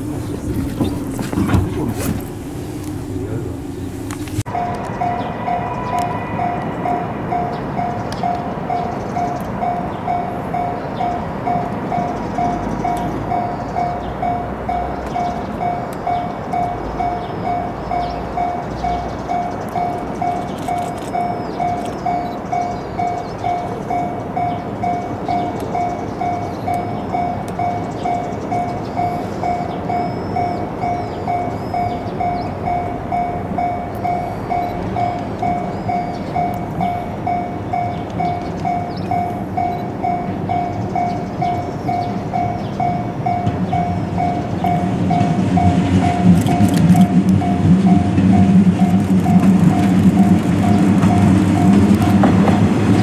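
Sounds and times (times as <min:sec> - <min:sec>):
train rumbling: 0:00.0 - 0:53.0
level crossing alarm ringing: 0:02.2 - 0:53.0.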